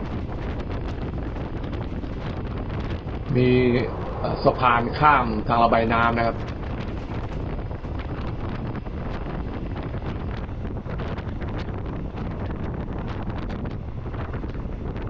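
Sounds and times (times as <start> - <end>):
train rumble: 0.0 - 15.0
wind buffeting microphone: 0.0 - 15.0.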